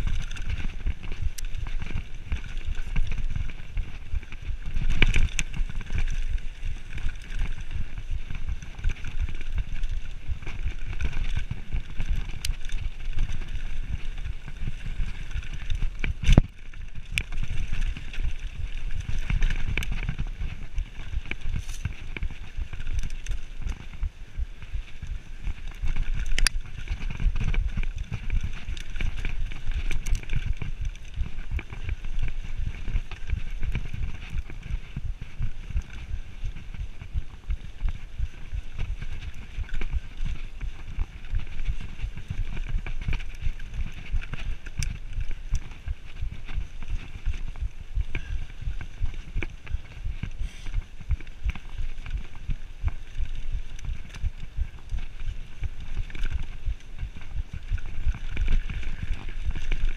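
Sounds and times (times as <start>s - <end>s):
bike rattling over bumps: 0.0s - 59.9s
bike tyres rumbling on dirt: 0.0s - 59.9s.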